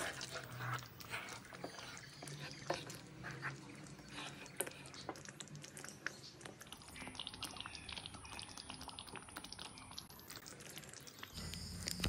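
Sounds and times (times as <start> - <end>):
thick gravy simmering: 0.0 - 12.0.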